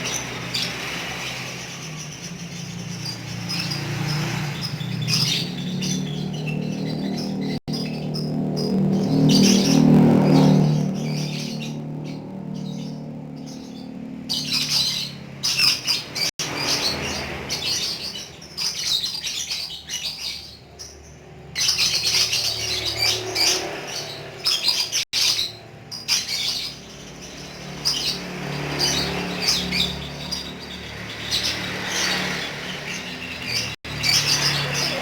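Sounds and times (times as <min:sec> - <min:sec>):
lovebird chattering: 0:00.0 - 0:35.0.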